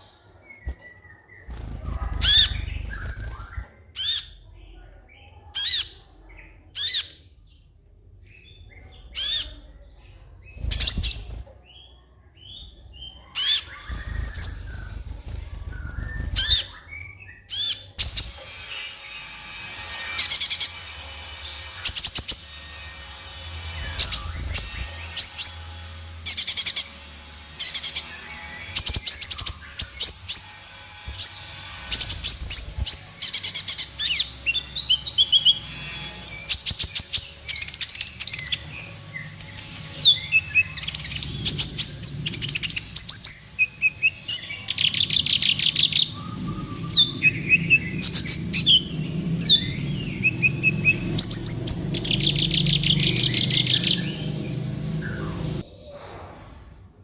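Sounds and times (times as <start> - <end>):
bird singing high trills: 0.0 - 4.6, 8.2 - 56.0
low hum: 0.6 - 5.2, 12.7 - 57.0.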